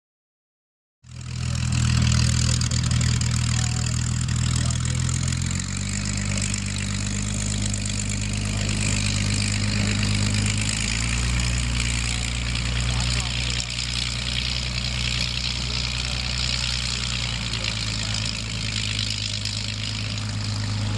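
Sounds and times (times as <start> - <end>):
piston aero engine running: 1.1 - 20.9.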